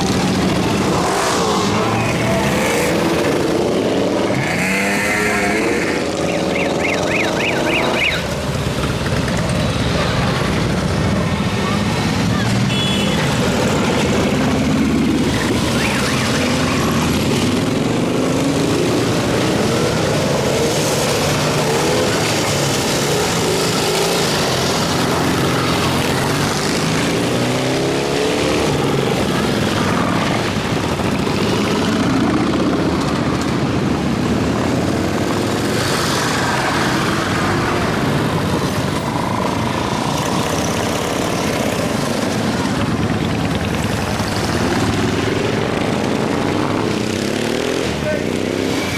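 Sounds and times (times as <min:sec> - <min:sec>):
motorcycles riding past: 0:00.0 - 0:48.9.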